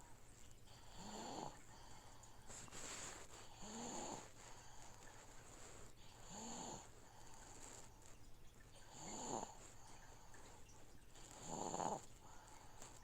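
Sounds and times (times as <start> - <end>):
aquarium filter hum: 0.0 - 13.0
baby snoring softly: 0.7 - 8.1, 8.7 - 13.0.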